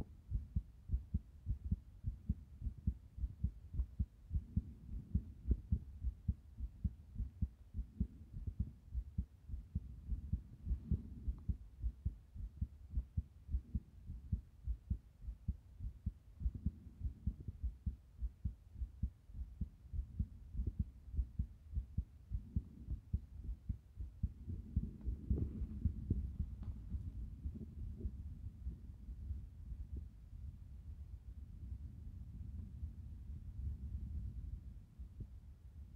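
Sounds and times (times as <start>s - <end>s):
heartbeat thumps: 0.0s - 30.2s
soft low rushing noise: 0.0s - 35.9s.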